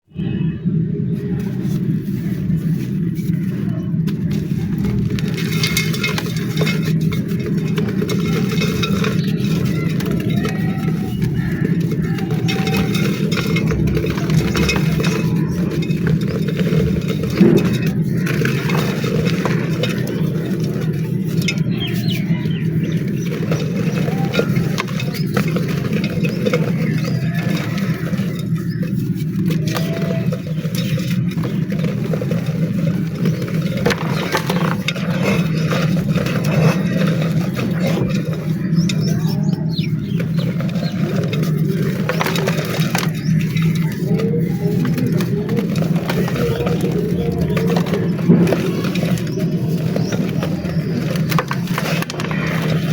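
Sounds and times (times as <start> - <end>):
birds chirping: 0.0 - 52.9
low rumble: 0.0 - 52.9
dry clay crunching: 0.2 - 52.9.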